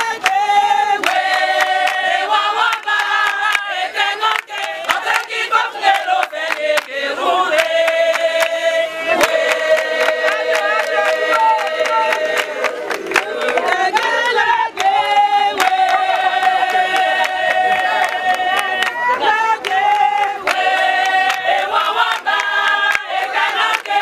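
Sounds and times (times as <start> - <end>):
hand clapping: 0.0 - 8.6, 9.2 - 24.0
women singing together: 0.0 - 24.0.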